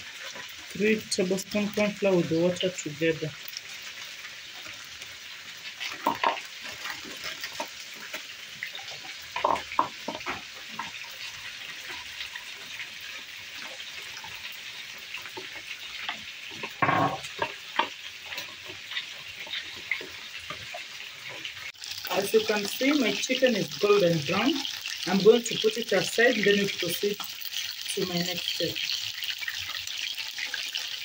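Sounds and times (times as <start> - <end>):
chicken sizzling in oil: 0.0 - 31.0.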